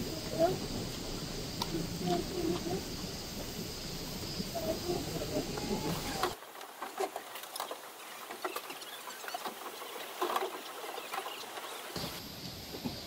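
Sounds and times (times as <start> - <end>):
boats and oars knocking: 0.0 - 13.0
faint hiss: 0.0 - 13.0.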